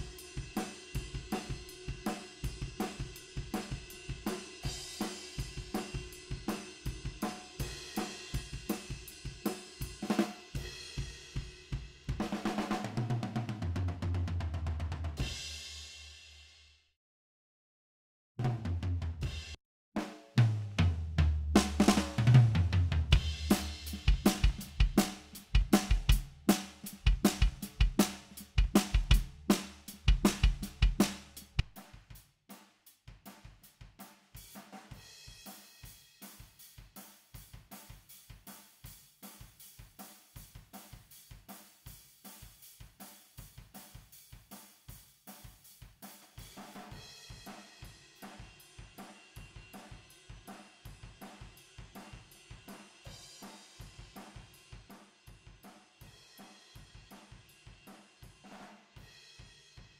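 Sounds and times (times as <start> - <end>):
acoustic drum kit playing: 0.0 - 15.8, 18.4 - 32.2, 33.3 - 59.9.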